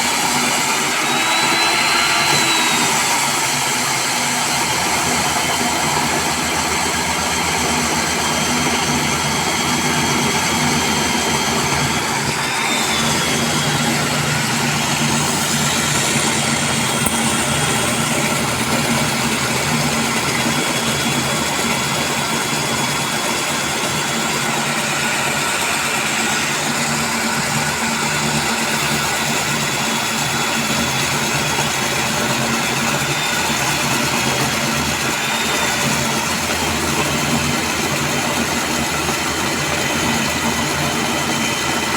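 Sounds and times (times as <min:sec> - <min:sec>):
core drilling machine whining: 0:00.0 - 0:41.9.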